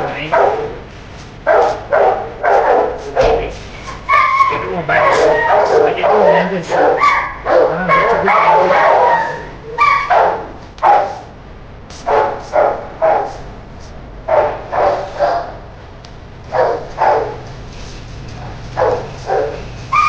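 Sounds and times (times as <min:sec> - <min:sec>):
dogs barking: 0:00.0 - 0:13.5, 0:14.2 - 0:20.0.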